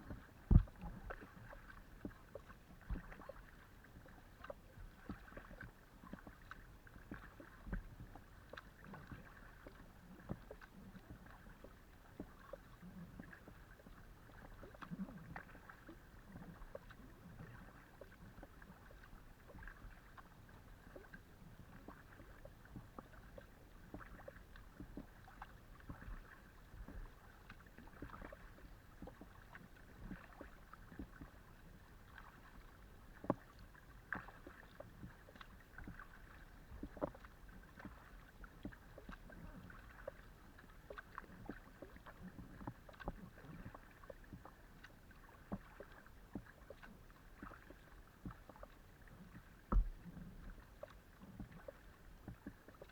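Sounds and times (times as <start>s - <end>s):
paddles dipping and dripping: 0.0s - 52.9s
water lapping against hull: 0.0s - 52.9s.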